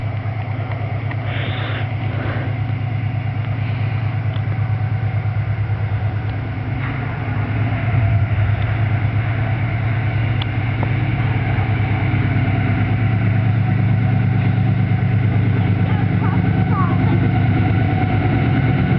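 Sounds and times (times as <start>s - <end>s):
locomotive diesel engine running: 0.0s - 18.9s.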